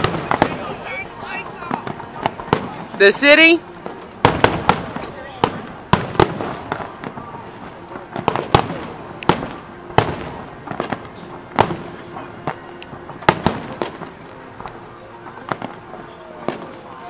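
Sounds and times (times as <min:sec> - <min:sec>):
fireworks bangs echoing: 0:00.0 - 0:17.0.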